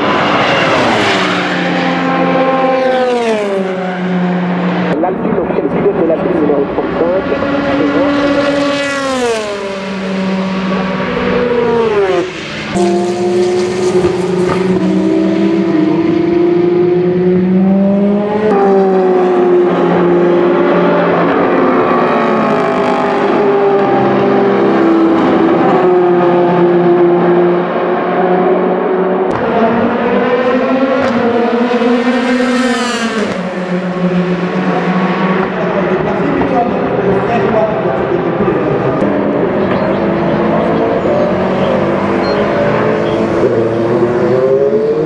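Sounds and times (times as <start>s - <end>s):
race cars passing under power: 0.0s - 45.0s
race car slowing for corner: 6.3s - 45.0s.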